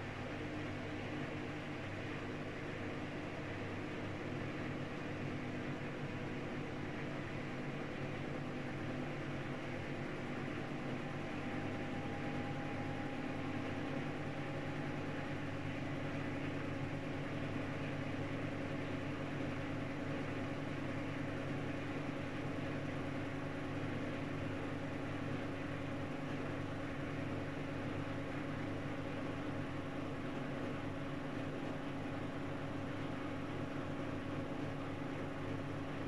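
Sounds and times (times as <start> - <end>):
washing machine spin cycle: 0.0 - 36.0.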